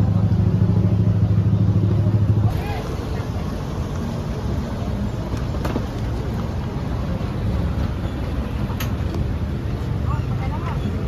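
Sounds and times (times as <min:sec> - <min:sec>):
crowd noise: 0:00.0 - 0:11.0
traffic rumble: 0:00.0 - 0:11.0.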